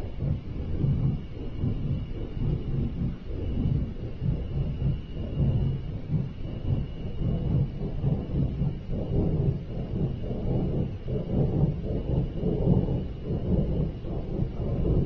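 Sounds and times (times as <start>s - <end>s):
deep wavering rumble: 0.0s - 15.0s.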